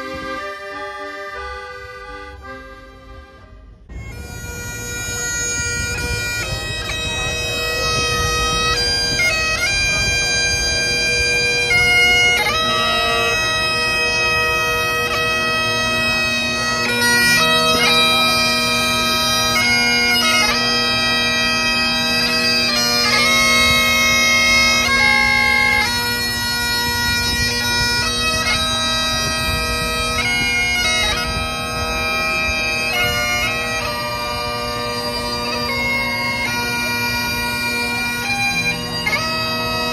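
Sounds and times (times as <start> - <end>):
bagpipes playing a tune: 0.0 - 39.9.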